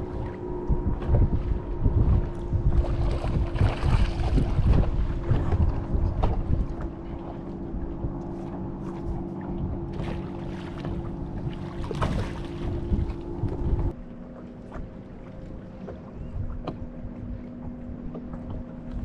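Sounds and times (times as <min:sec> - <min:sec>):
wind buffeting microphone: 0:00.0 - 0:14.0, 0:14.7 - 0:19.0
water lapping at boat hull: 0:00.0 - 0:19.0.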